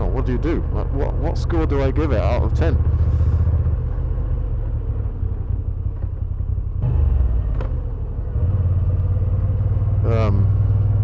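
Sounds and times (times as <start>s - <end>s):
motorcycle engine rumbling: 0.0s - 6.7s, 7.8s - 11.0s.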